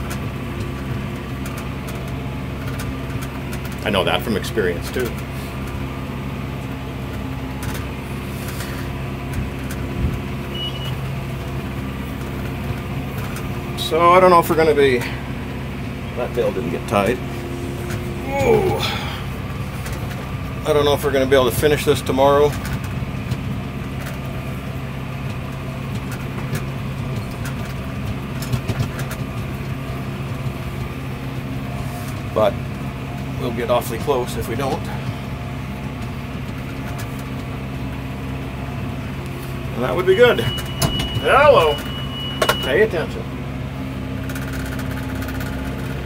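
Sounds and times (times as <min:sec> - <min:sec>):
tractor running under load: 0:00.0 - 0:46.0.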